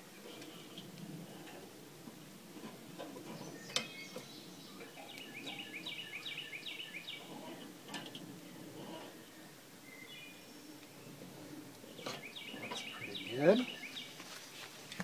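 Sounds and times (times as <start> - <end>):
songbird chirping: 2.6 - 15.0.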